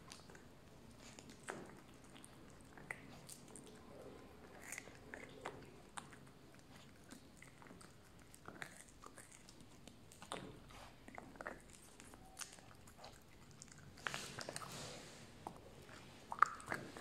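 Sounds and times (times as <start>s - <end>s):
puppy chewing on a bone: 0.0s - 17.0s.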